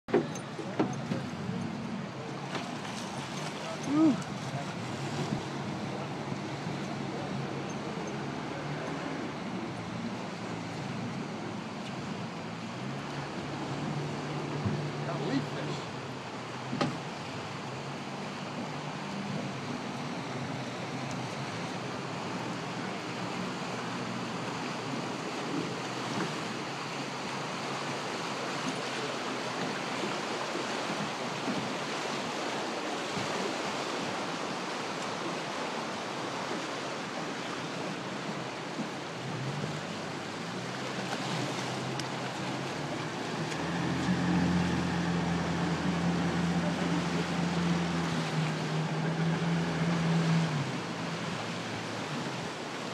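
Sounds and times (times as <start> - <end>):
outboard motor humming: 0.1 - 52.9
rushing river water: 0.1 - 52.9.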